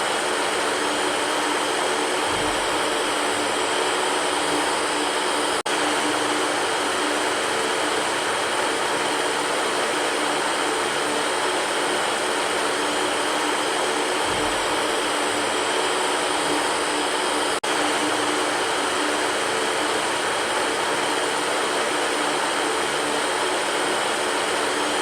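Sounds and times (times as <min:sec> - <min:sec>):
electric fan rushing hiss: 0:00.0 - 0:25.0.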